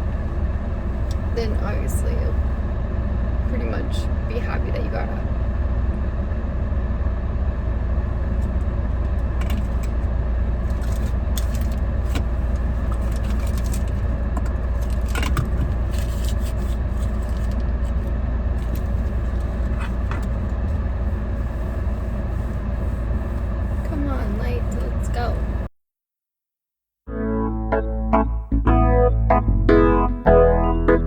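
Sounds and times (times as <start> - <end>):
low rumble of vehicle noise: 0.0 - 25.7.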